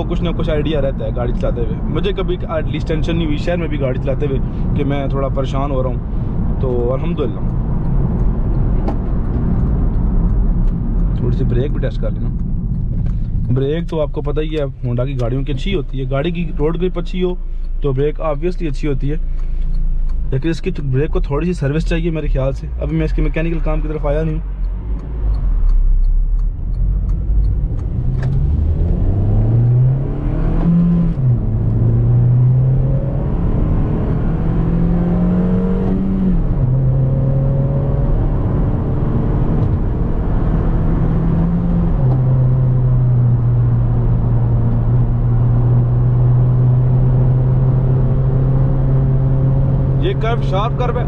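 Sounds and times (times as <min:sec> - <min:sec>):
car engine accelerating through gears: 0:00.0 - 0:51.0.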